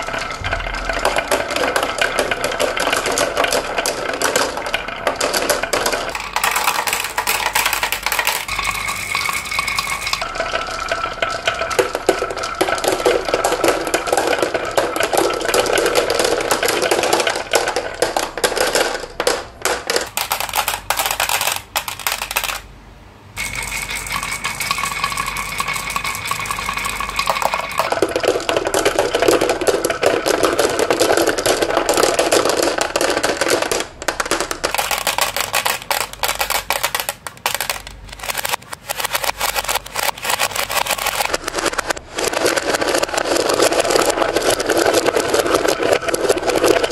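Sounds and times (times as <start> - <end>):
marbles dropping into plastic truck: 0.0 - 22.7, 23.4 - 46.9
glass marbles rattling on wood: 1.0 - 22.6, 23.4 - 46.9.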